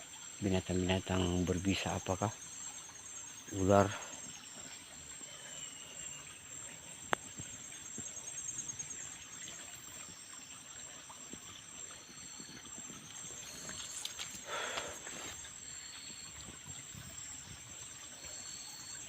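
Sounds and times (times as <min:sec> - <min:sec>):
insects chirring: 0:00.0 - 0:19.0
stream trickling: 0:00.0 - 0:19.0.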